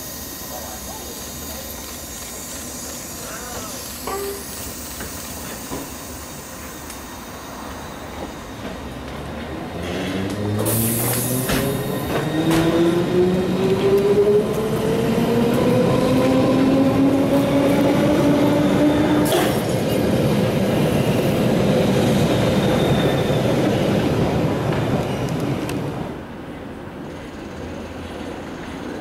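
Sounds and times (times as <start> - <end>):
train wheels on rails: 0.0 - 29.0.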